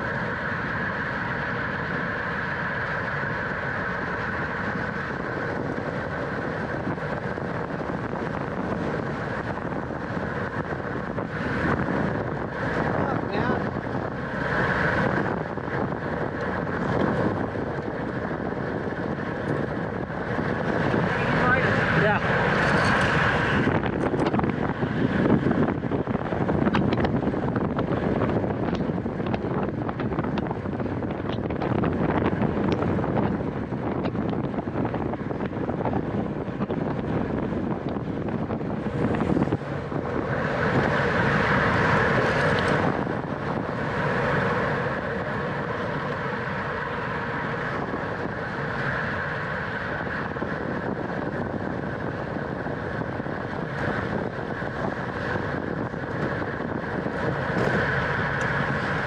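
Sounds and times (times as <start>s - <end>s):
bicycle road and drivetrain noise: 0.0s - 59.0s
steady high hum: 0.0s - 59.0s
wind rushing over microphone: 0.0s - 59.0s.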